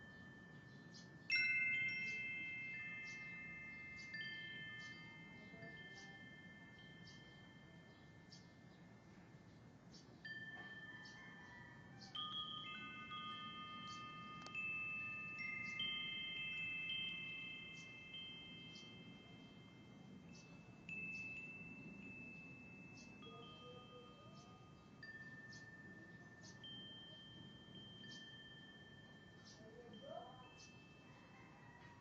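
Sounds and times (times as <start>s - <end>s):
metal wind chime ringing: 0.0s - 32.0s.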